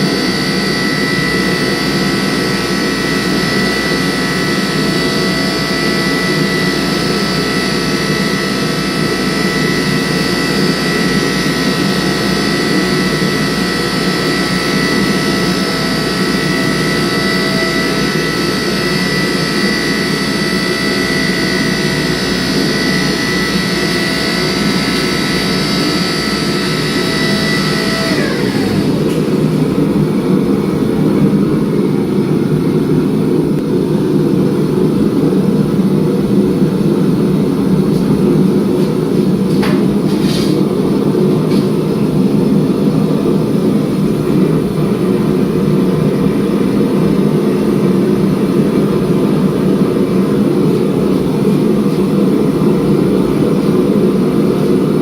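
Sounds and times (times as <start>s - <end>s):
gas forge burner roaring: 0.0s - 55.0s
high machine whine: 0.0s - 55.0s.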